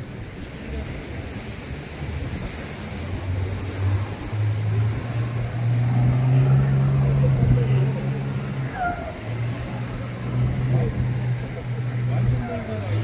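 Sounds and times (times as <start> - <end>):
wind and sea: 0.0 - 13.0
engine speeding up: 2.0 - 13.0.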